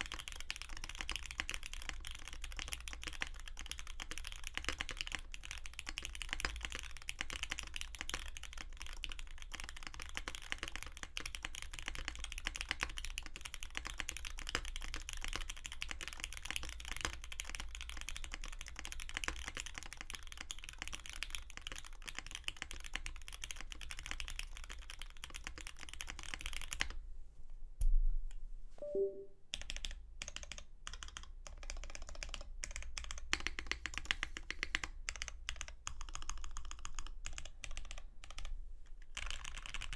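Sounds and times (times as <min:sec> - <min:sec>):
typing on mechanical keyboard: 0:00.0 - 0:27.0, 0:29.6 - 0:39.9.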